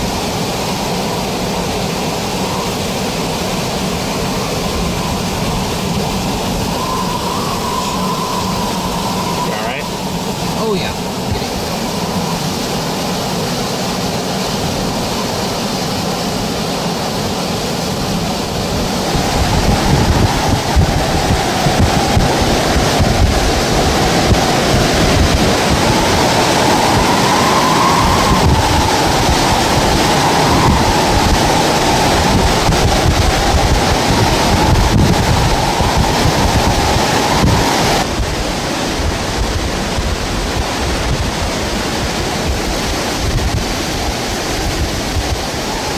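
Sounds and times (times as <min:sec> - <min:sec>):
strong wind and rain: 0:00.0 - 0:45.9
whistling wind tone: 0:00.0 - 0:45.9.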